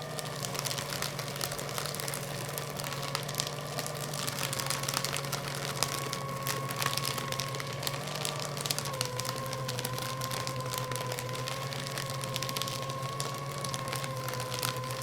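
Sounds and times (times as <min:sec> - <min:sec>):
paper being shredded: 0:00.0 - 0:15.0
paper shredder motor whine: 0:00.0 - 0:15.0.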